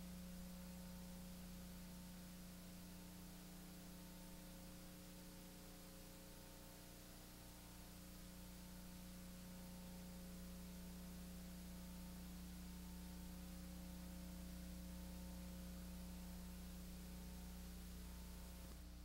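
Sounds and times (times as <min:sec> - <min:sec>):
faint hiss: 0:00.0 - 0:19.0
low electrical hum: 0:00.0 - 0:19.0.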